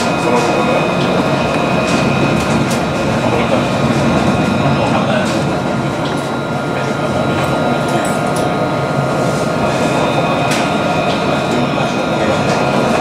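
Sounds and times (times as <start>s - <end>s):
thin steady whine: 0.0s - 13.0s
tram wheels rumbling on rail: 0.0s - 13.0s.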